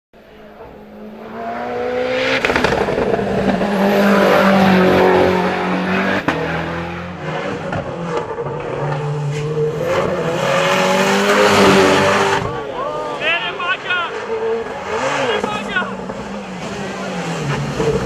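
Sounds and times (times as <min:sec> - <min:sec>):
rally car engine revving: 0:00.2 - 0:18.0.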